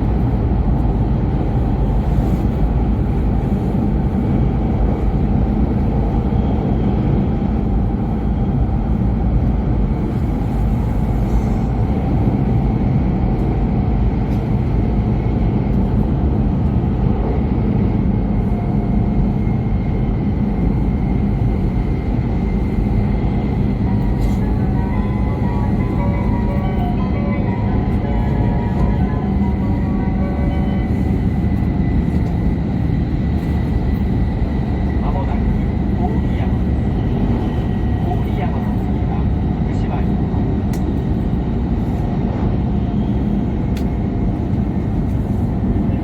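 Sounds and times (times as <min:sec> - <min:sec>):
train interior low rumble: 0:00.0 - 0:46.0.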